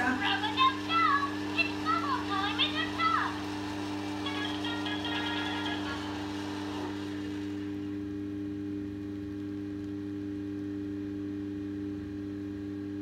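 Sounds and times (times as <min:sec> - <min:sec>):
small fan motor humming: 0:00.0 - 0:13.0.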